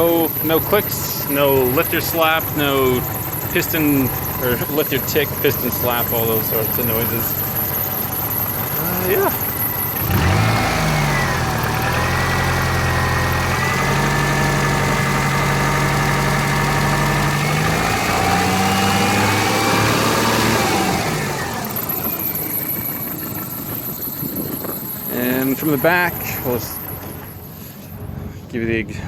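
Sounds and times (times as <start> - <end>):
car engine revving: 0.0 - 28.3.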